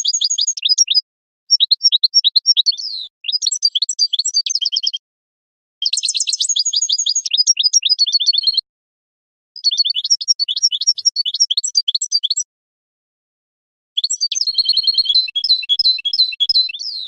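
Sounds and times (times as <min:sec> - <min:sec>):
bird singing high twittering song: 0:00.0 - 0:05.0, 0:05.8 - 0:08.6, 0:09.6 - 0:12.5, 0:14.0 - 0:17.0.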